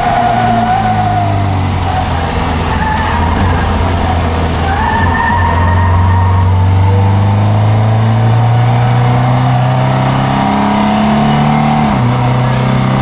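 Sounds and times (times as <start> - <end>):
car engine revving in cabin: 0.0 - 13.0.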